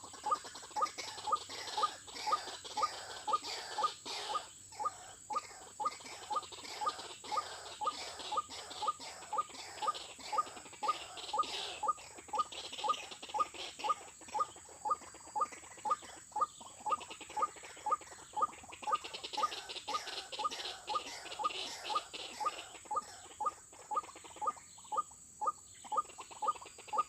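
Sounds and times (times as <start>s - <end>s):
waterhen calling: 0.0s - 27.0s.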